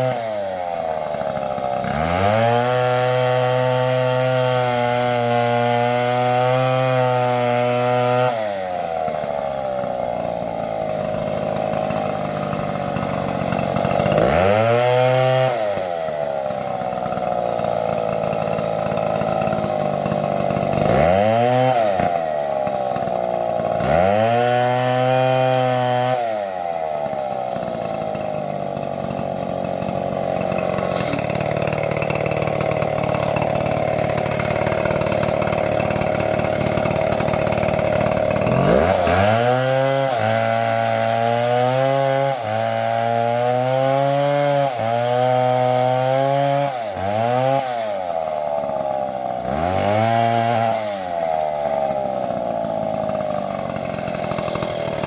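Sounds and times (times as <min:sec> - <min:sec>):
chainsaw running at high revs: 0:00.0 - 0:55.0.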